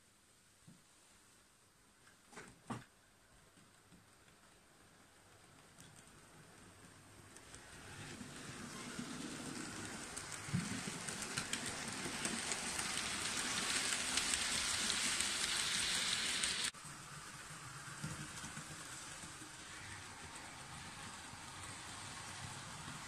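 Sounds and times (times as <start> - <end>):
model train wheels rattling on track: 4.1 - 23.0.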